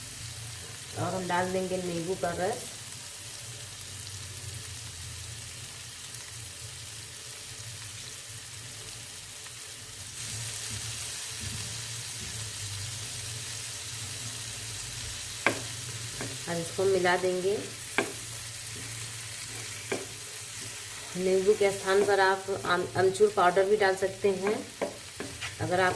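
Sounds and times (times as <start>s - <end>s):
food sizzling in oil: 0.0s - 25.9s.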